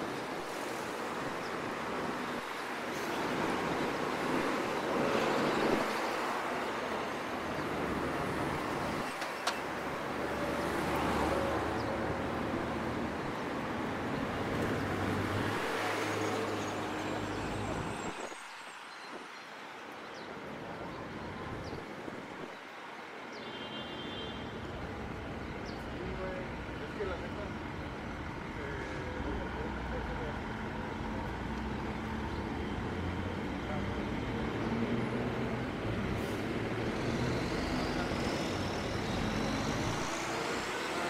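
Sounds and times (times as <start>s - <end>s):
cars passing: 0.0s - 19.2s, 24.6s - 41.0s.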